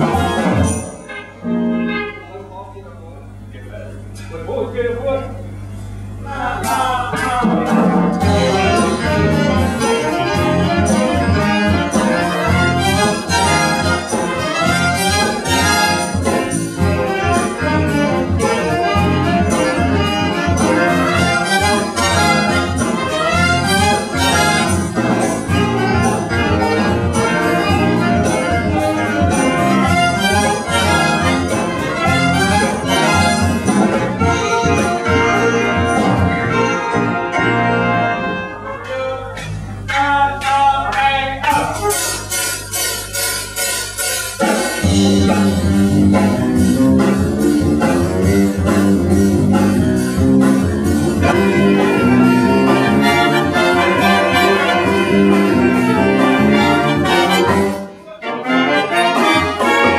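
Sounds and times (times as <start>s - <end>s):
brass music over steady beat: 0.0s - 2.4s, 7.1s - 59.9s.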